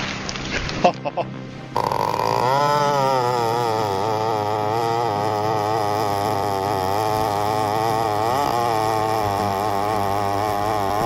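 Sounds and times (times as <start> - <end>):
steady low hum: 1.3 - 11.0
small engine wavering pitch: 1.6 - 11.0.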